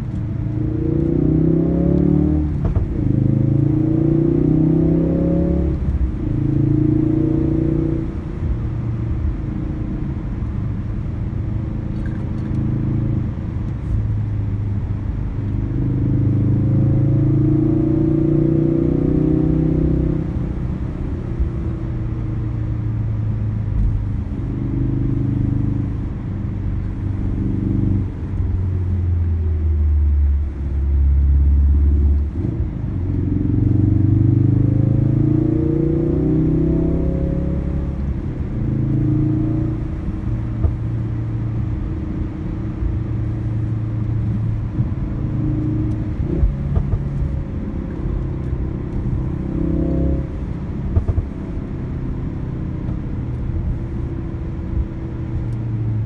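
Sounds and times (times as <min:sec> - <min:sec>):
car engine accelerating: 0:00.0 - 0:56.0
road noise rumble: 0:00.0 - 0:56.0.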